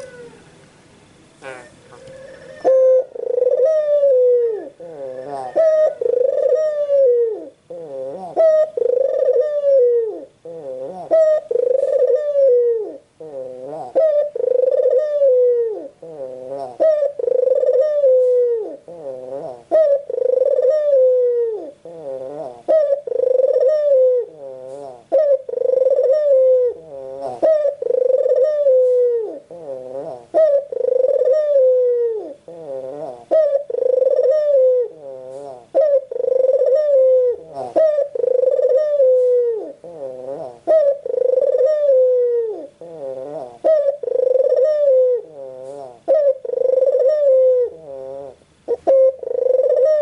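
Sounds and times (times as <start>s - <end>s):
dove cooing: 0.0s - 0.5s, 1.4s - 50.0s.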